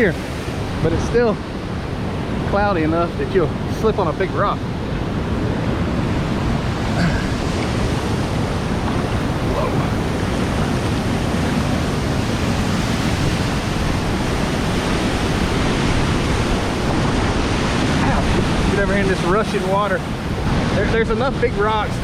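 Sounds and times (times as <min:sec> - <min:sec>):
waterfall and rushing stream: 0:00.0 - 0:22.0.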